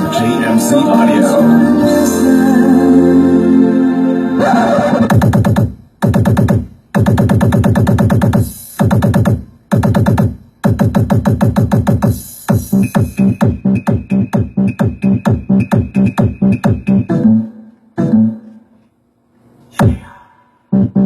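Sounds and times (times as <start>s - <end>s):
electronic dance music: 0.0s - 18.7s, 20.7s - 21.0s.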